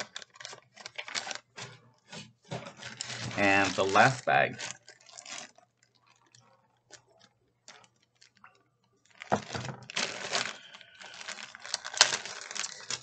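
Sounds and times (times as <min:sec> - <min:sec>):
bag rustling and crinkling: 0:00.0 - 0:13.0.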